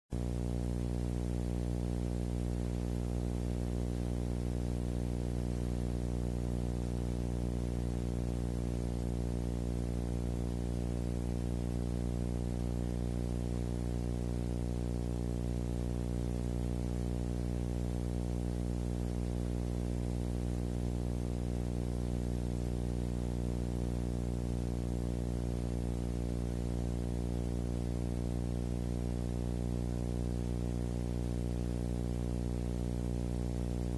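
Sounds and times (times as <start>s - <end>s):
buzzing hum: 0.1s - 33.9s.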